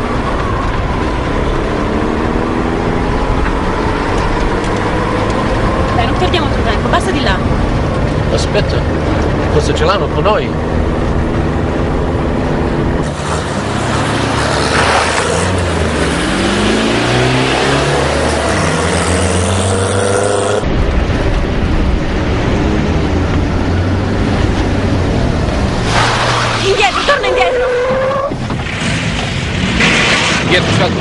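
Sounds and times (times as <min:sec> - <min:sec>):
steady engine drone: 0:00.0 - 0:25.9
car engines revving hard: 0:00.0 - 0:31.0.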